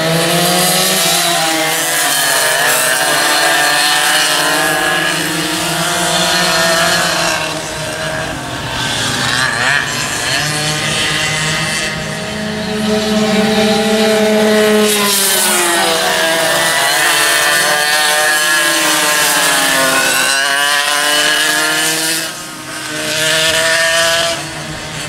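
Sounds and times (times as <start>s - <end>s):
kart engines revving: 0.0s - 25.0s.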